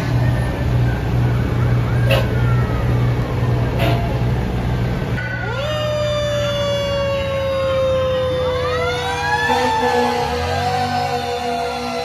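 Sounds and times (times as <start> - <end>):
siren wailing: 0.0 - 3.8, 5.2 - 12.0
diesel engine rumbling: 0.0 - 12.0.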